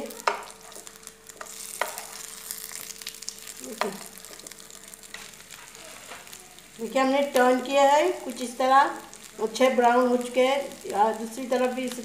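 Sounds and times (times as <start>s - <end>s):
rolls sizzling in oil: 0.0s - 12.0s.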